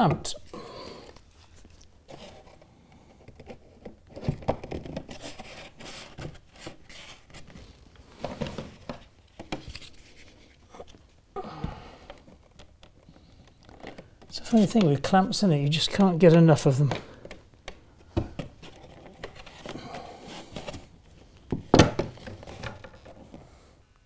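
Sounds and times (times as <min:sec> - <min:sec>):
handling rustling: 0:01.0 - 0:23.5.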